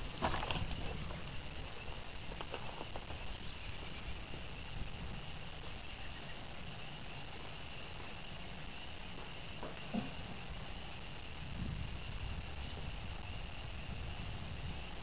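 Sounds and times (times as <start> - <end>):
insects or frogs chorus: 0.0 - 15.0.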